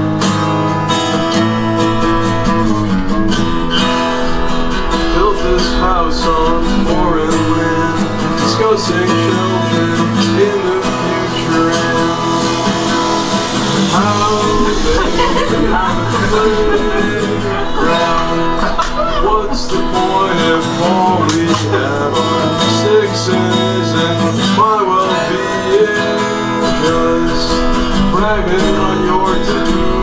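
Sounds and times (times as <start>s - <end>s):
strummed acoustic guitar: 0.0s - 30.0s.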